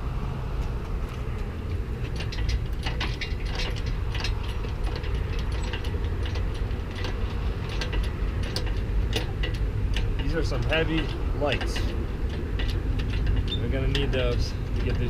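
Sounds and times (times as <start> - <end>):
steady low hum: 0.0 - 15.0
clicks of hard objects handled: 0.7 - 15.0.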